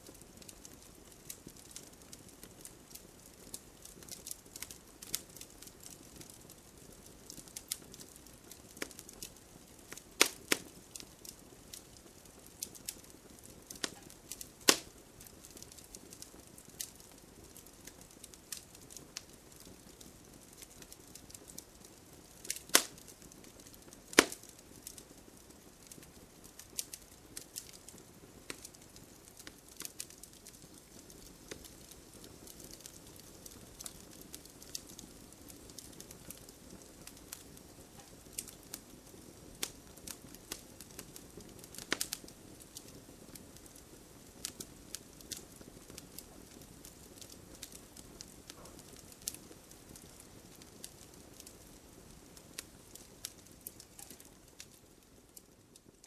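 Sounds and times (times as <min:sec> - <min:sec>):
campfire crackling: 0:00.0 - 0:56.0
loud sharp pops of fire: 0:00.0 - 0:56.0.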